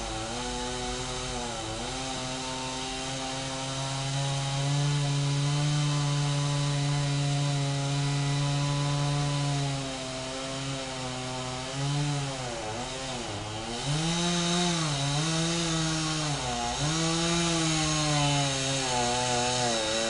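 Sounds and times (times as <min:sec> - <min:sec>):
chainsaw running at high revs: 0:00.0 - 0:20.0.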